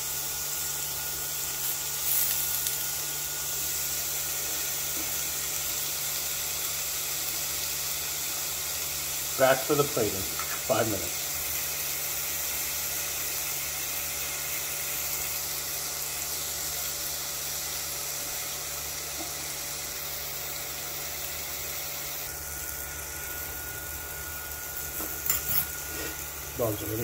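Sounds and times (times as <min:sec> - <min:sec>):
meat sizzling on grill: 0:00.0 - 0:27.0.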